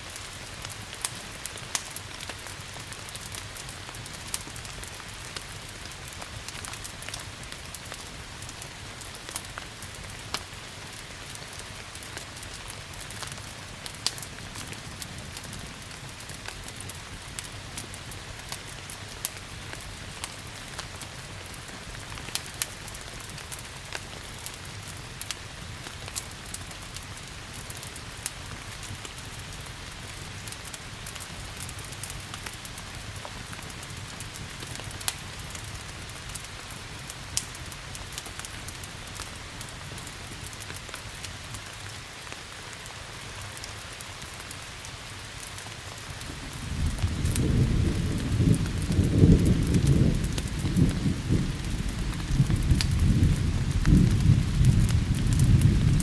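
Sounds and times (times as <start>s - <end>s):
steady rain hissing: 0.0s - 56.0s
wood fire crackling and popping: 0.0s - 56.0s.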